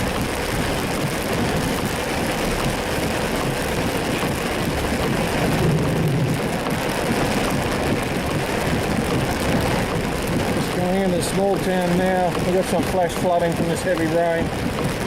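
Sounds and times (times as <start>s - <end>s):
car engine humming: 0.0s - 15.0s
rain on a car: 0.0s - 15.0s
tyres on wet road: 0.0s - 15.0s.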